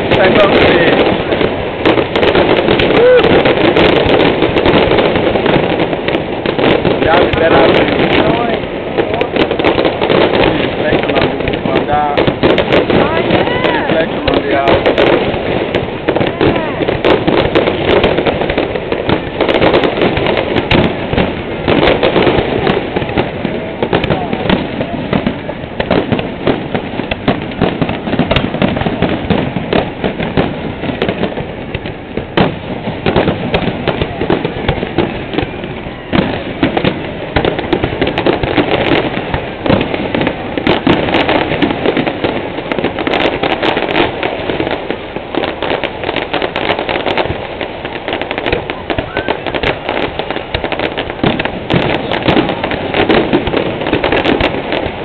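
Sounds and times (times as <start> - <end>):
fireworks bangs pops and crackles: 0.0 - 55.0.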